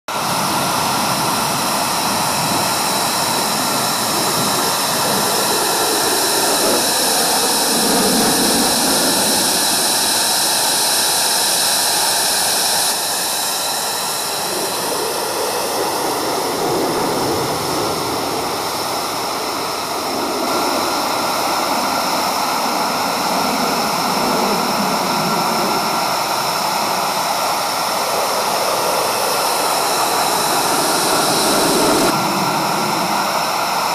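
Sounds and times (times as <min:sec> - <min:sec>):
jet engine roar overhead: 0:00.1 - 0:33.9.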